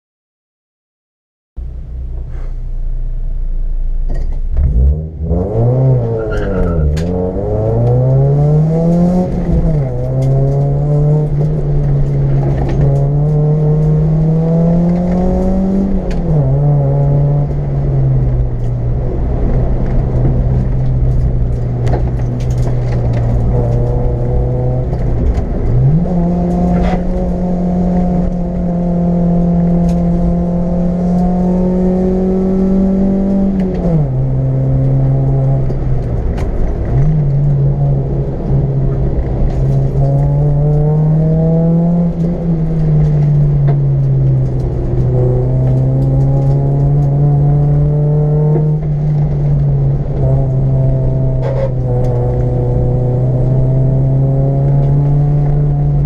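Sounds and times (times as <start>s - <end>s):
car engine revving: 1.6s - 56.0s.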